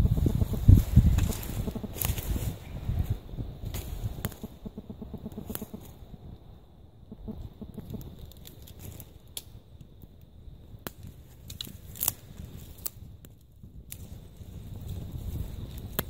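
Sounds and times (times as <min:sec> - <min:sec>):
wood fire crackling and popping: 0:00.0 - 0:06.4, 0:07.1 - 0:16.0.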